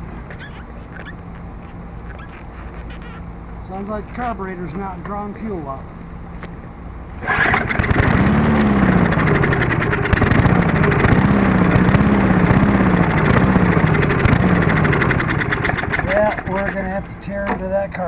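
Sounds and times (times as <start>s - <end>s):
lawn mower engine surging: 0.0s - 18.0s.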